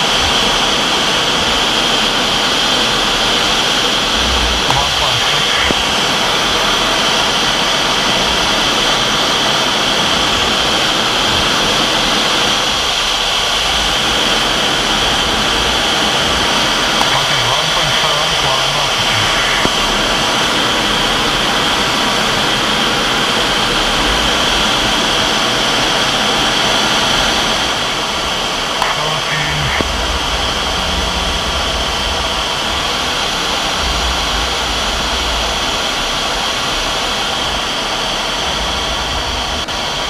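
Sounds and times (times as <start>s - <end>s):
jet engine whine and airflow: 0.0s - 40.0s.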